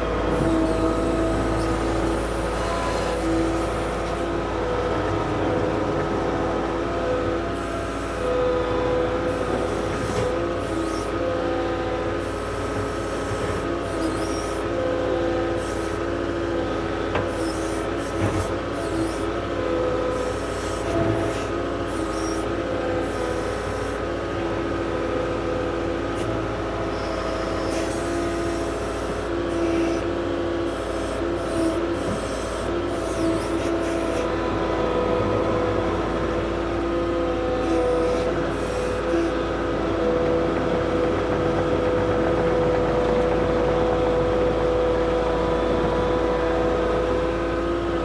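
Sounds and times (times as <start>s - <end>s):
diesel engine whining under load: 0.0s - 48.0s
tracks and bucket pushing dirt: 0.0s - 48.0s.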